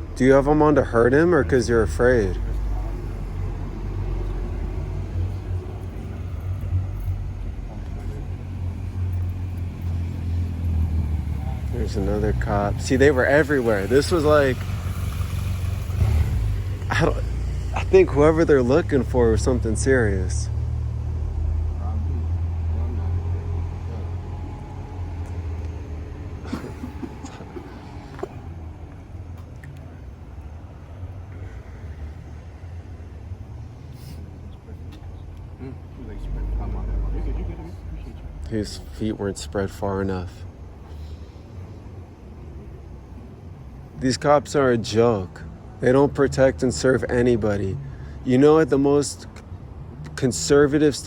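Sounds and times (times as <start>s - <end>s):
low rumble of vehicle noise: 0.0s - 51.0s.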